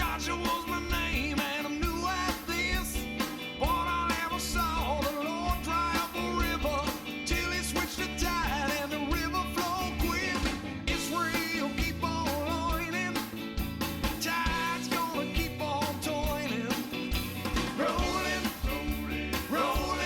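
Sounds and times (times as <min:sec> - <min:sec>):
rock song with singing: 0:00.0 - 0:20.0.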